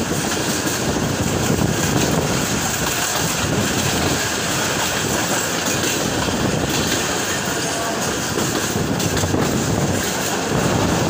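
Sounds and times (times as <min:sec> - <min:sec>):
train wheels rumbling and rattling: 0:00.0 - 0:11.0.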